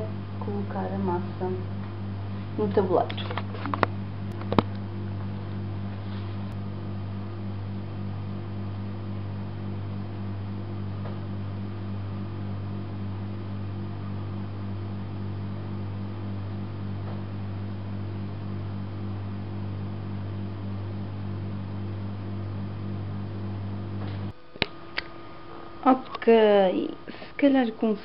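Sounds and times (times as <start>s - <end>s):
low hum with faint hiss: 0.0s - 28.0s.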